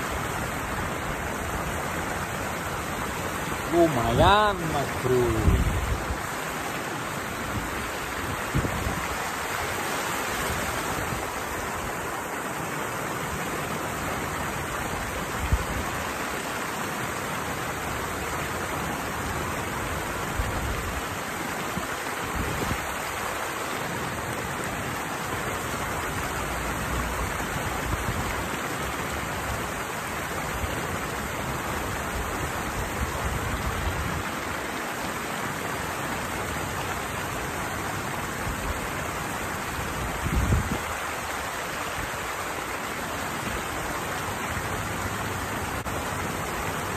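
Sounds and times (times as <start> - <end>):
water rushing over cascade: 0.0 - 46.9.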